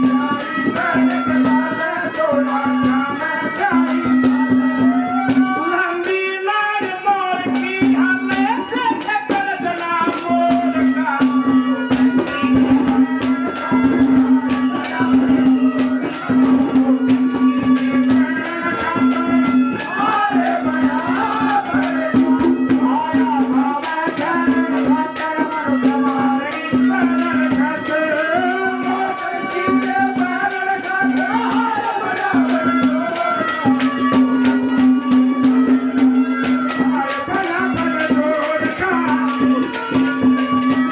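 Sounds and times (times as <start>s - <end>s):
hand drum rhythm: 0.0s - 40.9s.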